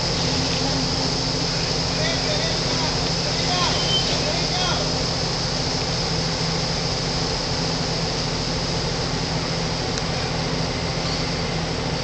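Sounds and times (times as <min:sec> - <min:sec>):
constant high hiss: 0:00.0 - 0:12.0
off-road vehicle engine running: 0:00.0 - 0:12.0.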